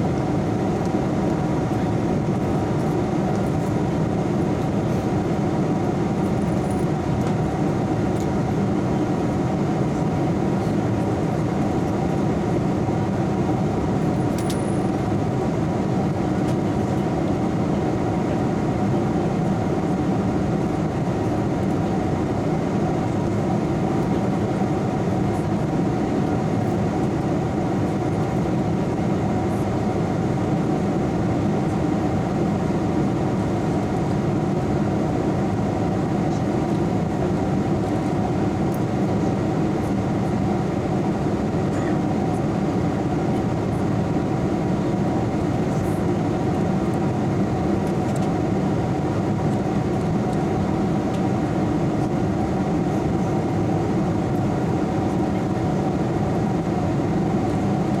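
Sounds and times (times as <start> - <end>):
jet airliner cabin drone: 0.0 - 58.0.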